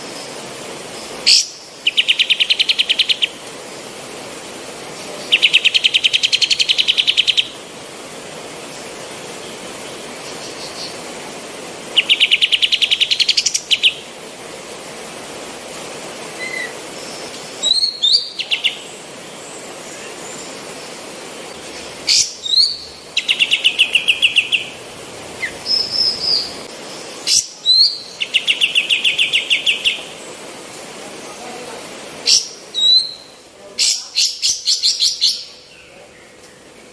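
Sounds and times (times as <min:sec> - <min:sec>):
background hiss: 0:00.0 - 0:36.9.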